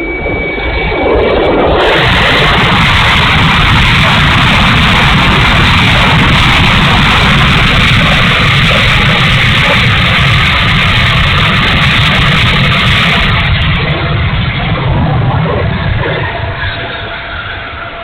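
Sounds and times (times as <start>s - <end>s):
electric ducted fans rushing: 0.0s - 18.0s.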